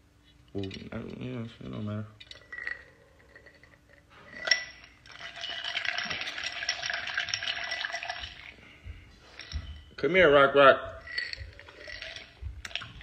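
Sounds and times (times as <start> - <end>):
rattling clatter of small objects: 0.6 - 8.6, 9.2 - 10.0, 11.0 - 13.0.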